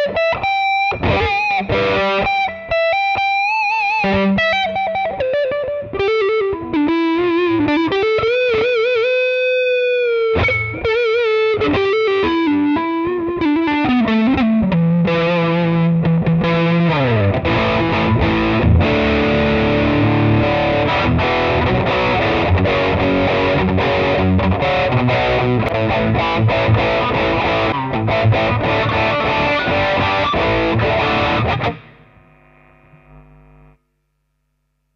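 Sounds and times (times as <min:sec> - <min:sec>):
distorted electric guitar: 0:00.0 - 0:34.9.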